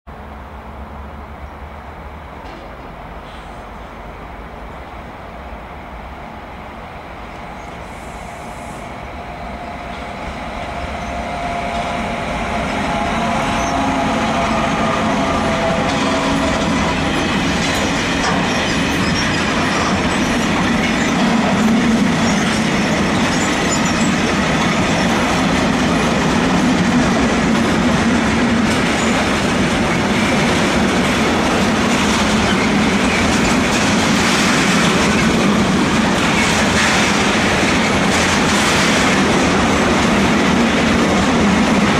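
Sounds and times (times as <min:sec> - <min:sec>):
freight train wagons passing: 0:00.1 - 0:41.9
electric locomotive whine: 0:00.2 - 0:41.9.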